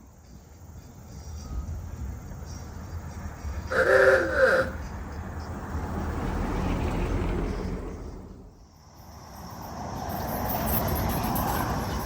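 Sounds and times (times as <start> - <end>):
vehicles driving past: 0.6 - 12.0.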